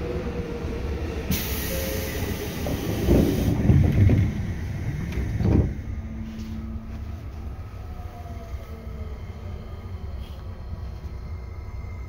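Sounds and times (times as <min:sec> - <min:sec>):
electric train rumbling on rails: 0:00.0 - 0:12.0.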